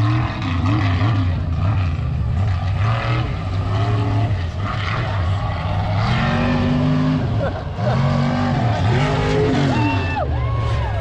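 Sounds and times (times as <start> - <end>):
truck engine running hard: 0.0 - 11.0.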